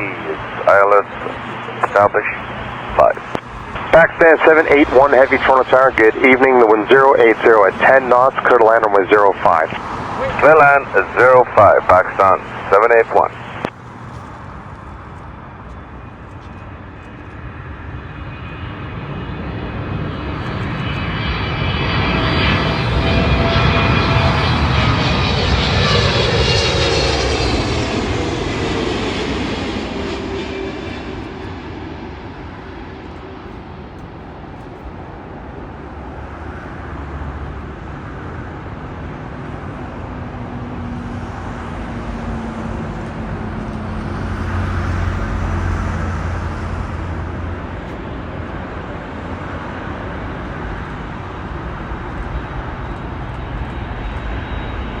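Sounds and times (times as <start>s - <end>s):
jet airliner engine whine: 0.0s - 55.0s
jet rumble: 0.0s - 55.0s.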